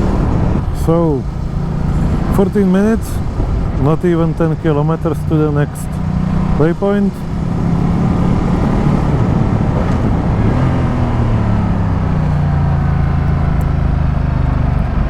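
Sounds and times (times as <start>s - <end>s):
motorcycle engine running: 0.0s - 15.0s
road noise: 0.0s - 15.0s
wind noise: 0.0s - 15.0s.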